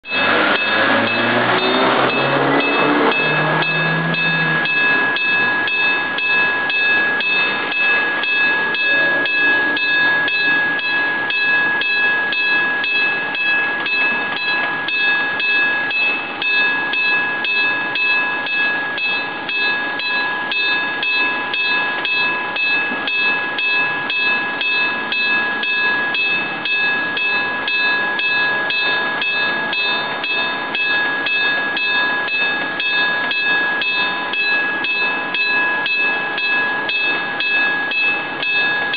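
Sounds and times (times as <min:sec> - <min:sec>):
level crossing bell ringing: 0:00.0 - 0:38.9.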